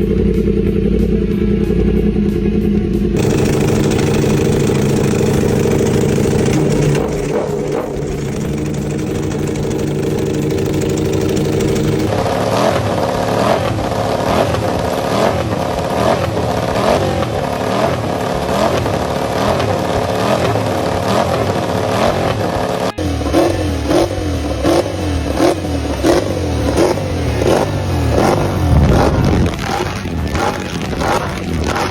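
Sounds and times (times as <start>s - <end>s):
racing motorcycle engines revving: 0.0s - 31.9s.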